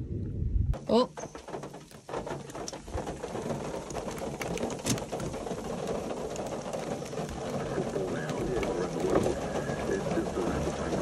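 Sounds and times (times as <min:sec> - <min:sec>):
rain pattering on car roof: 0:00.8 - 0:11.0.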